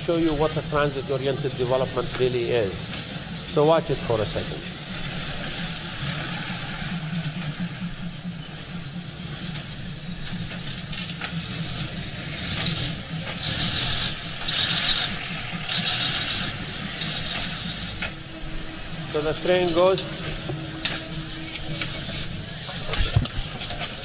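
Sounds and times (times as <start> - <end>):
diesel railcar rumbling: 0.0 - 24.0
high-pitched pulsing sound: 0.0 - 24.0.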